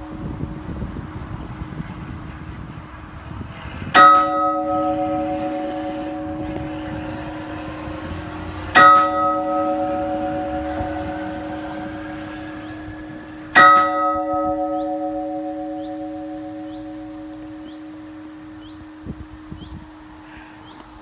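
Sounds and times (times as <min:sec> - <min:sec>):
church bell tolling: 0:00.0 - 0:03.2, 0:03.9 - 0:20.6.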